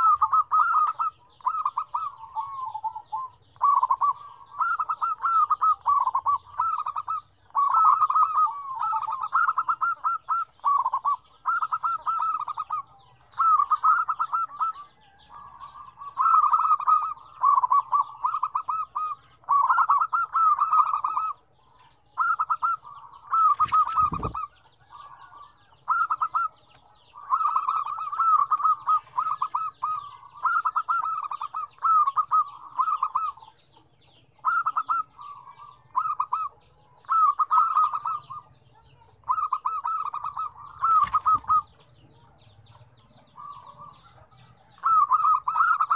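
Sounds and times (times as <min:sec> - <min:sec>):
doves cooing: 0:00.0 - 0:45.9.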